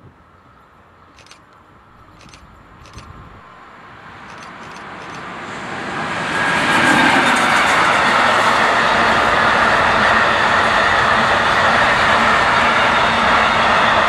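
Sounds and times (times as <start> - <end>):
freight train wheels rumbling on rails: 1.1 - 14.0.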